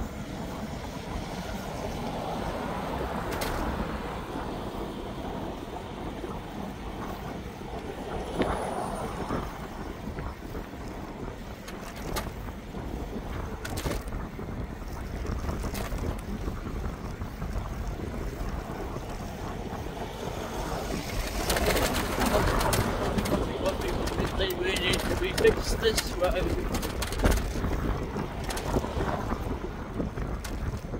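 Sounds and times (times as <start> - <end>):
road noise rumble: 0.0 - 30.9
wind on microphone: 0.0 - 30.9.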